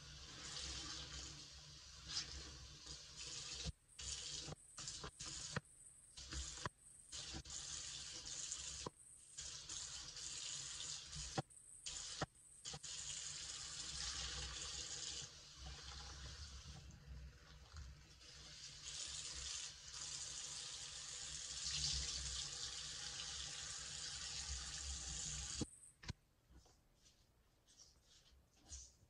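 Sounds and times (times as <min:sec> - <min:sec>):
tap water running: 0:00.0 - 0:05.6, 0:06.2 - 0:25.7.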